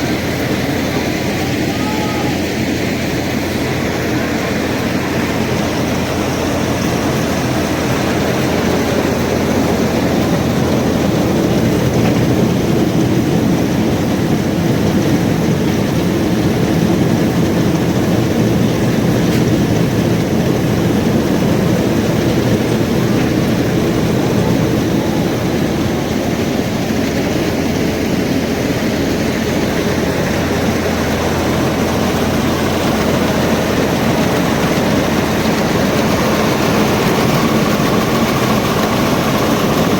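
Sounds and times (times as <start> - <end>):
tractor engine: 0.0 - 39.9.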